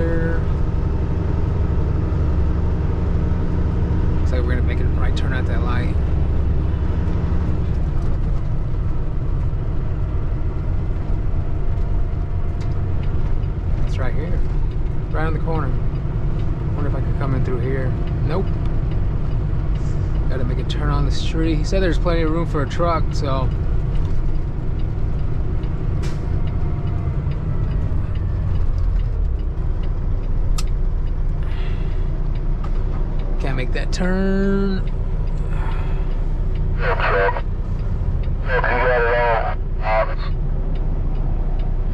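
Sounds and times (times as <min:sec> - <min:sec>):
diesel truck engine rumbling: 0:00.0 - 0:41.9.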